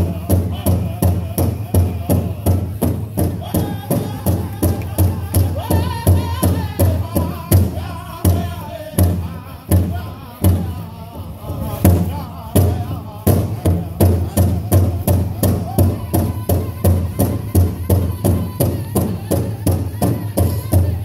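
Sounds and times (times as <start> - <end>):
powwow drum beating: 0.0 - 21.0
singers' voices: 0.0 - 21.0.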